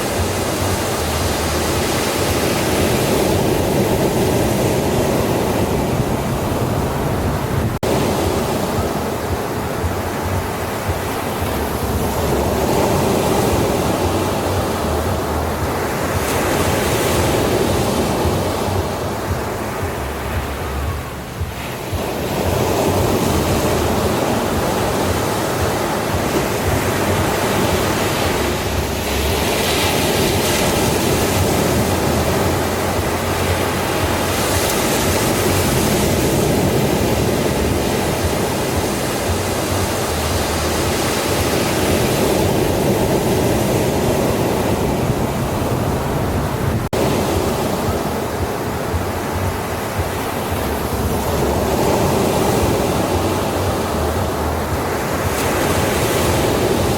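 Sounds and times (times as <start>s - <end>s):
ocean surf washing on beach: 0.0s - 56.9s.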